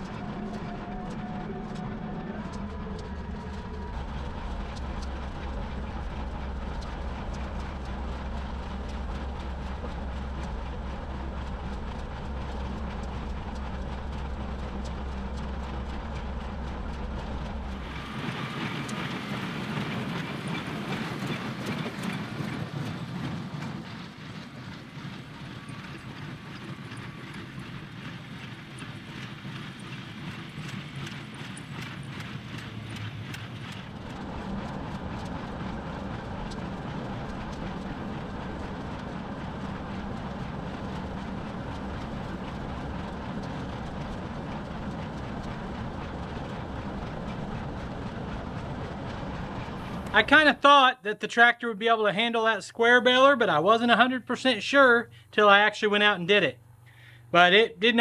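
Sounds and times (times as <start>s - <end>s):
tractor engine drone: 0.0s - 58.0s.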